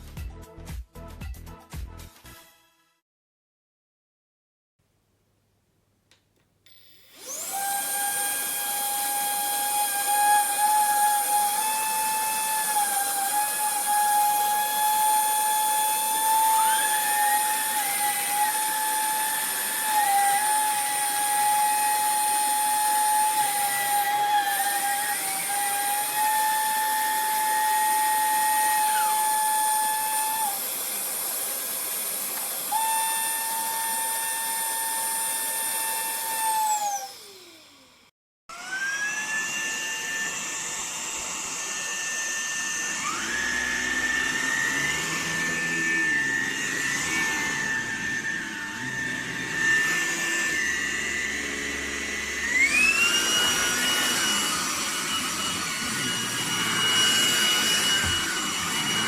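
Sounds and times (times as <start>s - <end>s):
stick vacuum motor whine: 6.7s - 59.0s.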